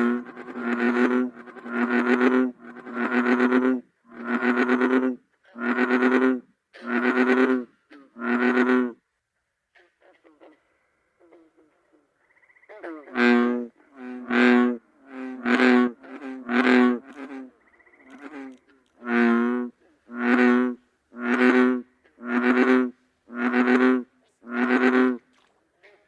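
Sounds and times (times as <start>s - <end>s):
bullfrog croaking: 0.0s - 9.0s, 11.2s - 26.0s.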